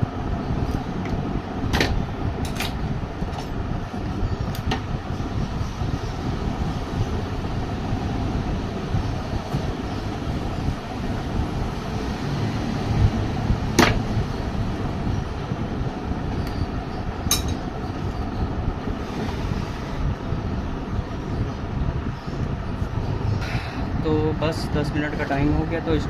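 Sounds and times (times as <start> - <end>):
low rumbling background noise: 0.0 - 26.0.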